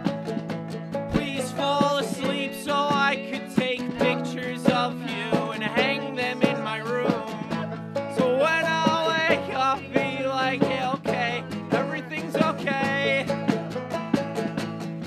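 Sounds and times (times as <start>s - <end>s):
picked banjo notes: 0.0s - 15.0s
strummed acoustic guitar: 0.0s - 15.0s
person singing: 1.1s - 13.5s.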